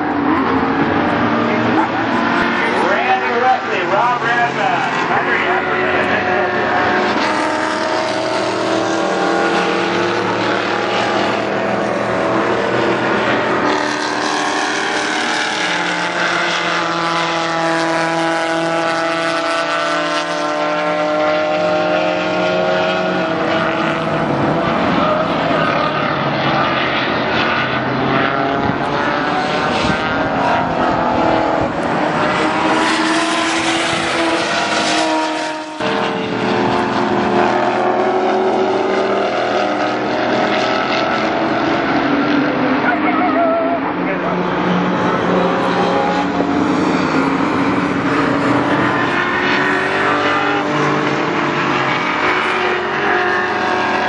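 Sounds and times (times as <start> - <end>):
race car engines: 0.0 - 54.0.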